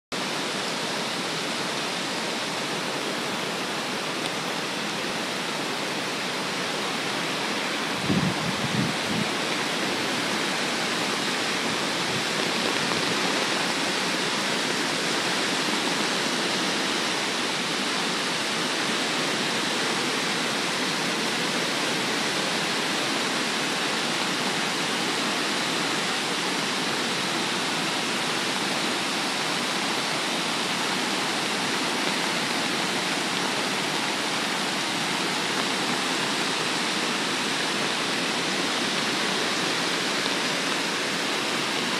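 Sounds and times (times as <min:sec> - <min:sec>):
creek water rushing: 0:00.1 - 0:41.9.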